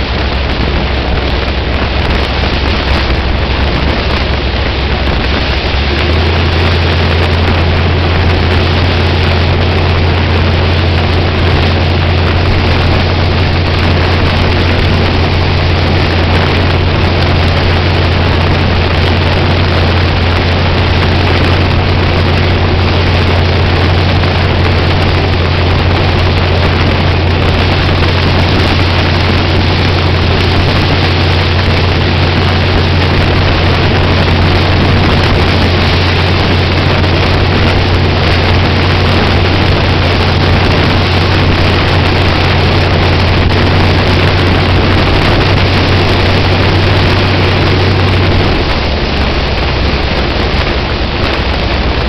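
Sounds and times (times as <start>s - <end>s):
race car engine droning: 0.0s - 52.0s
wind buffeting microphone: 0.0s - 52.0s.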